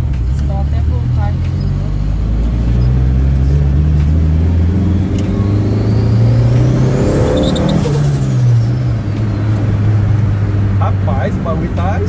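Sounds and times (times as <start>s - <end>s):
car engine accelerating: 0.0s - 12.0s
high turbo whine: 0.0s - 12.0s.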